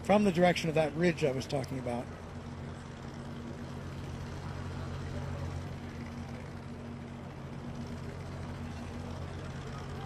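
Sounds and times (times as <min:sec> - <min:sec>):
helicopter drone: 0:00.0 - 0:10.0.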